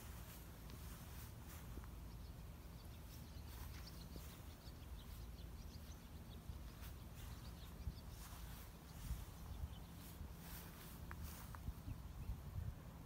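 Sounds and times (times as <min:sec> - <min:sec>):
distant bird chirps: 0:00.0 - 0:12.4
steady low rumble: 0:00.0 - 0:13.0.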